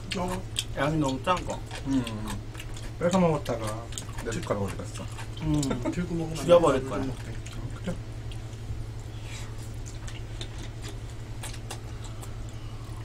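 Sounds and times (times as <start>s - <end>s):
chewing noodles: 0.0s - 13.0s
low electrical hum: 0.0s - 13.0s.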